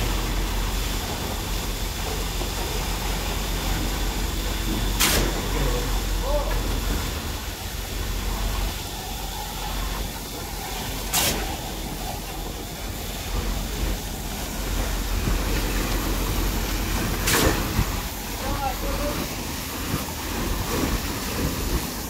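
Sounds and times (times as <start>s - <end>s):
machinery engine rumble with hiss: 0.0s - 22.0s.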